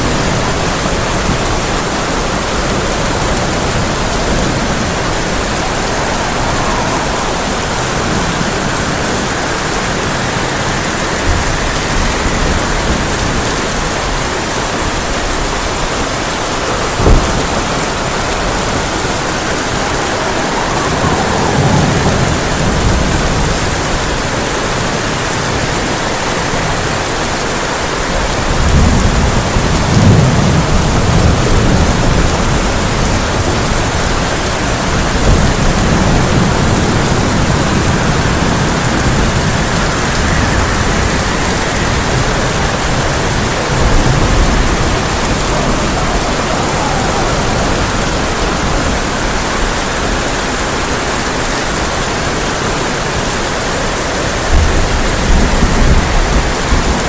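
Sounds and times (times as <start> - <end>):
heavy rain on a tin roof: 0.0 - 57.0
thunder rolling: 0.0 - 57.0.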